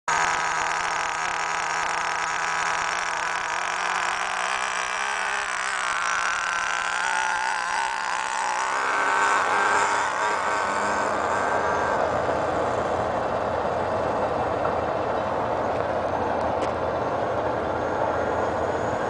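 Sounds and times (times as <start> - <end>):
small engine high-pitched whine: 0.1 - 19.0.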